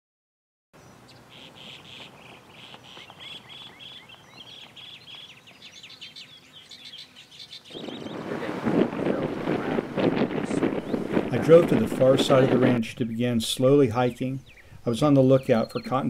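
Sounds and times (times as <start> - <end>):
faint outdoor background: 0.8 - 16.0
small birds chirping: 0.8 - 16.0.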